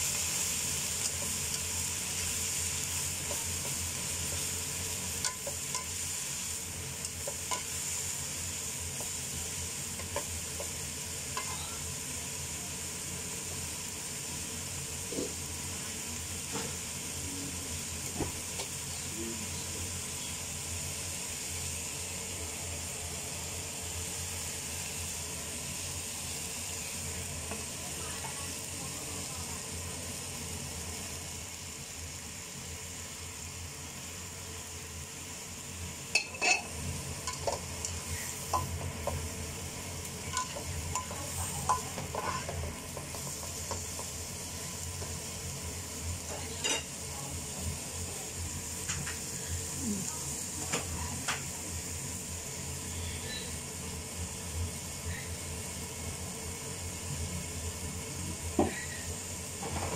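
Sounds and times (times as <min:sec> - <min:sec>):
vegetables sizzling in wok: 0:00.0 - 0:59.9.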